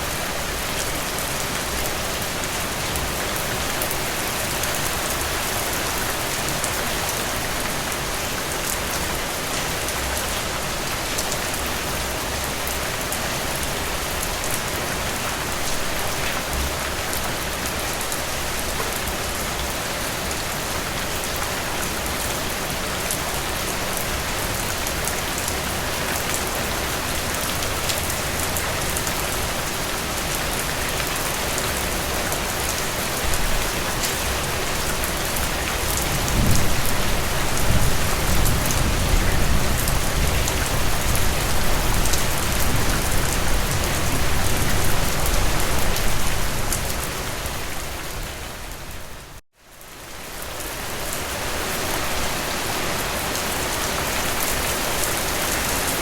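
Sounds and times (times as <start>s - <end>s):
rain falling through trees: 0.0s - 56.0s.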